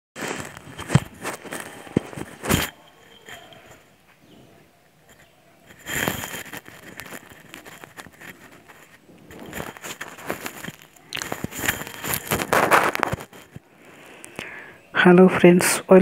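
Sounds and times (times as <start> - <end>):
microphone handling noise: 0.2 - 4.5, 5.1 - 13.7.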